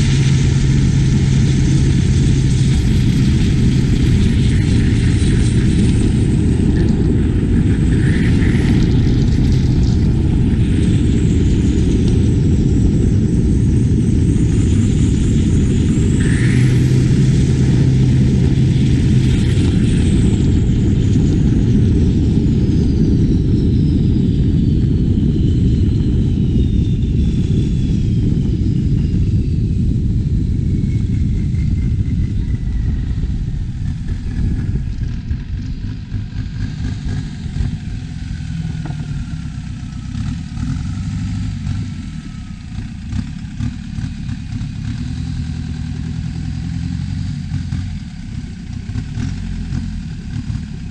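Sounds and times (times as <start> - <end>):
boat diesel engine drone: 0.0 - 50.9.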